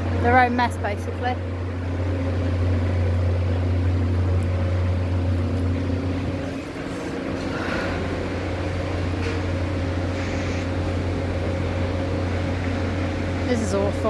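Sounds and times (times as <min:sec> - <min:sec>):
heavy machinery engine humming: 0:00.0 - 0:14.0.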